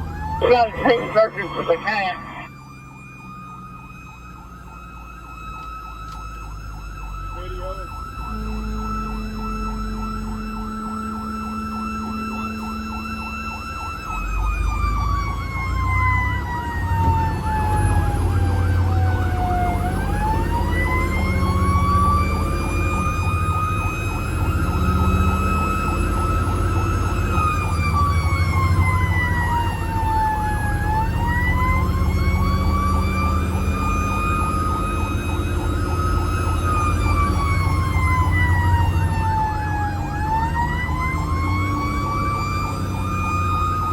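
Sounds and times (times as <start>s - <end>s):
fire engine siren wailing: 0.0s - 43.9s
fire truck engine rumbling: 0.0s - 43.9s.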